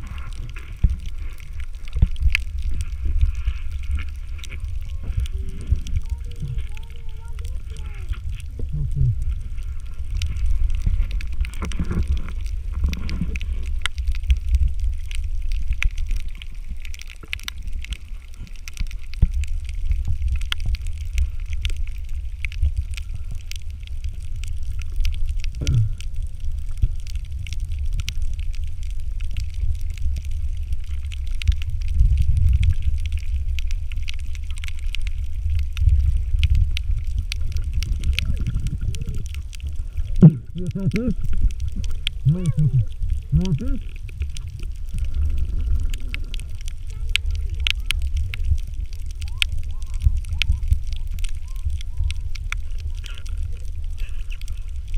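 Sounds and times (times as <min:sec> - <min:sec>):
fine crackling clicks: 0:00.0 - 0:54.9
muffled underwater rumble: 0:00.0 - 0:54.9.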